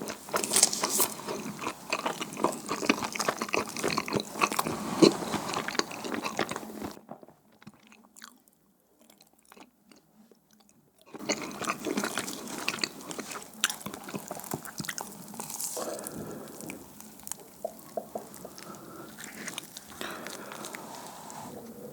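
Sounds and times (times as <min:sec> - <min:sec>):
chewing sticky food: 0:00.0 - 0:21.8.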